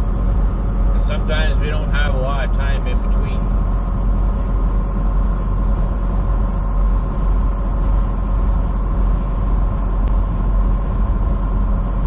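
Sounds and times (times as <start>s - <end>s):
steady whine: 0.0s - 12.0s
truck engine and road noise: 0.0s - 12.0s.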